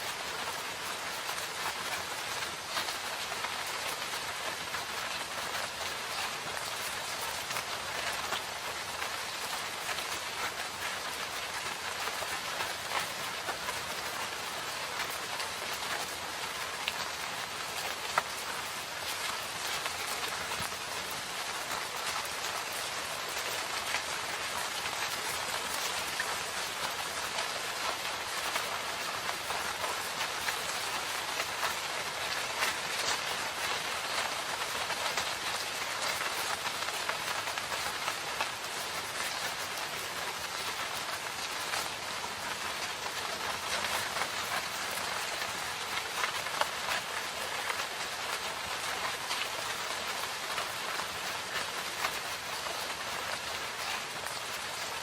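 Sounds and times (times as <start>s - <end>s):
raindrops ticking: 0.0s - 55.0s
steady rain hiss: 0.0s - 55.0s.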